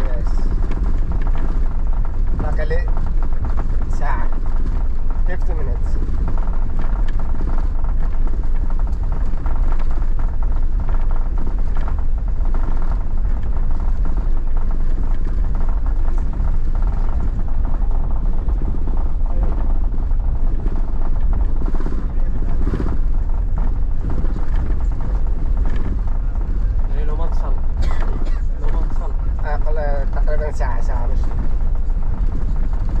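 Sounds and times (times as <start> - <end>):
car driving rumble: 0.0 - 33.0.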